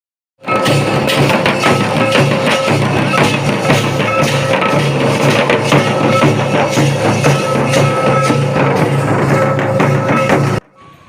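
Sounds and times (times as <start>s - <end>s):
tribal dance music with drums: 0.4s - 10.6s.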